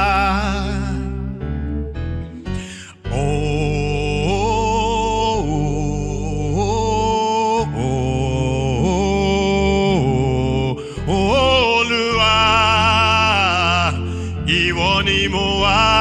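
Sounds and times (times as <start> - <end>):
low keyboard chords: 0.0 - 16.0
sliding held melody notes: 0.0 - 16.0.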